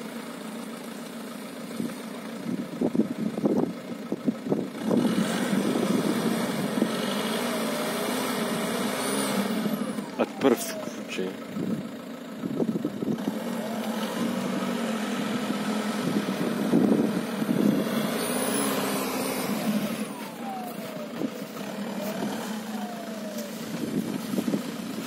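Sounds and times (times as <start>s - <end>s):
diesel car engine revving: 0.0s - 25.0s
engine whine: 0.0s - 25.0s.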